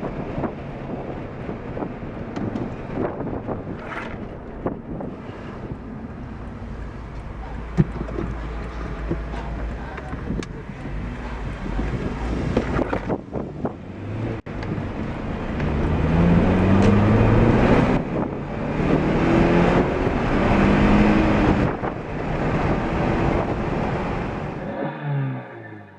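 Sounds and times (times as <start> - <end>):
road and wind noise: 0.0 - 25.9
car engine accelerating through gears: 1.8 - 25.9.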